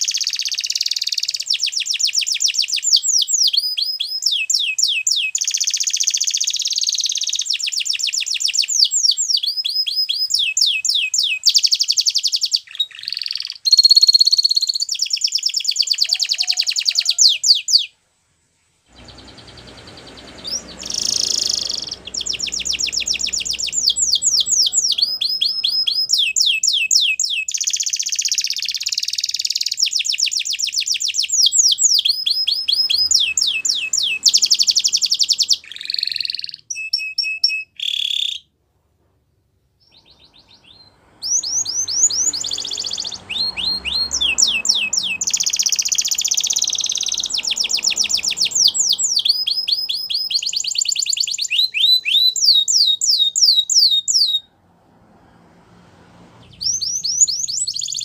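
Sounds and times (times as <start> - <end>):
canary singing: 0.0 - 17.9, 18.9 - 38.5, 39.8 - 54.6, 56.2 - 58.0.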